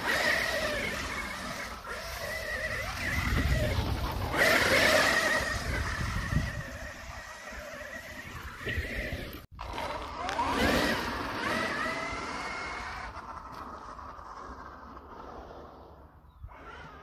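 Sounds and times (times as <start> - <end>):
rc truck motor whine: 0.0 - 15.6, 16.5 - 17.0.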